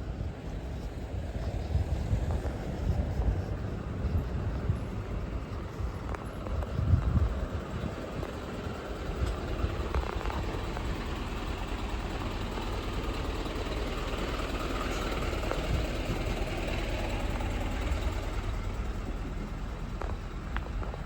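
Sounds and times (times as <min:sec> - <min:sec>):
city street traffic: 0:00.0 - 0:21.0
vehicle engine running close: 0:00.0 - 0:21.0.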